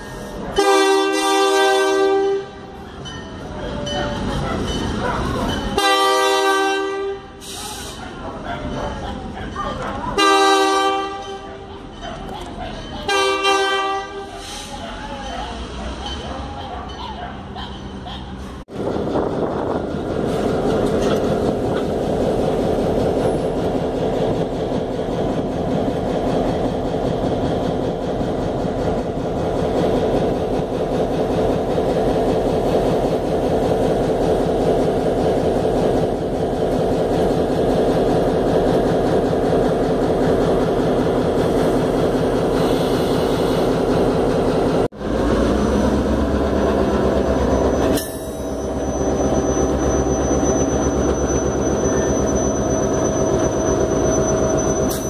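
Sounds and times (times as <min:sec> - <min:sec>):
locomotive diesel engine rumbling: 0:00.0 - 0:55.0.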